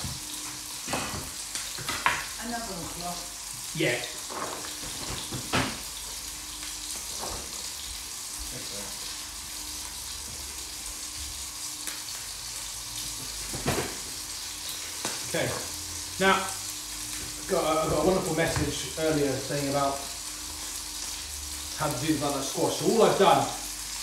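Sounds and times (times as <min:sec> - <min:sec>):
pans sizzling on a stove: 0:00.0 - 0:24.0.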